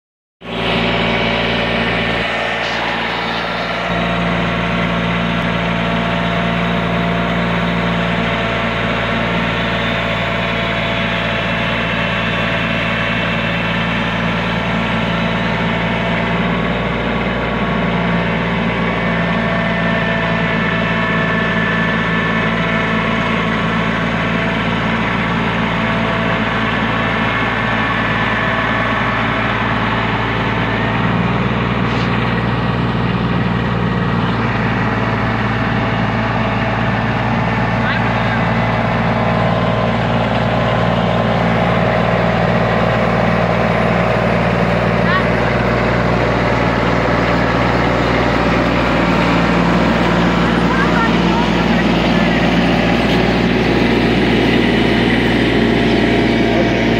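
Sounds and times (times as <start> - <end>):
loader engine running: 0.4 - 56.9.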